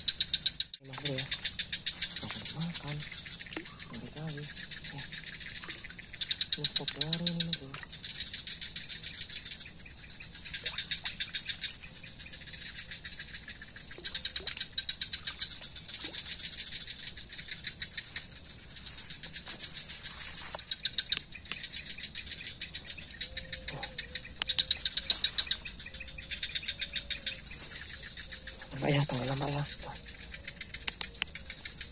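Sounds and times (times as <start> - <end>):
high-pitched insect whine: 0.0 - 31.9
pulsed insect chirping: 0.0 - 31.9.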